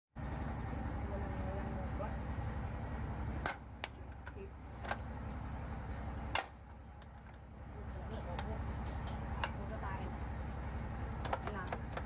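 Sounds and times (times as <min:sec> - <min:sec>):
machinery humming: 0:00.2 - 0:12.0.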